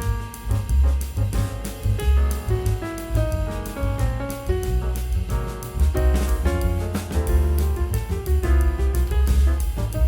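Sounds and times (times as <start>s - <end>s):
upbeat jazz with piano bass drums: 0.0s - 10.0s.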